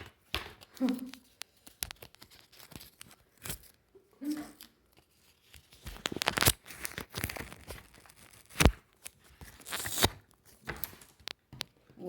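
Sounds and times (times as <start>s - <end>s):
paper crinkling and rustling: 0.0s - 11.6s.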